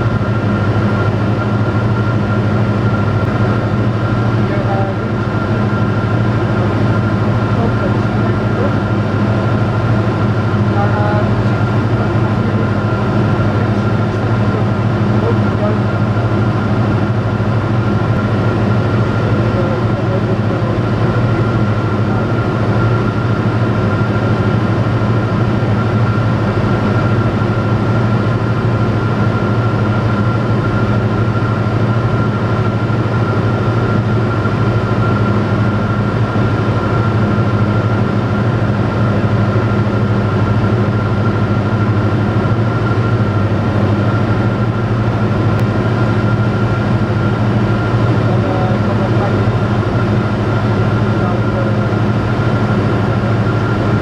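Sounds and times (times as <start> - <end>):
aircraft engine droning: 0.0 - 54.0.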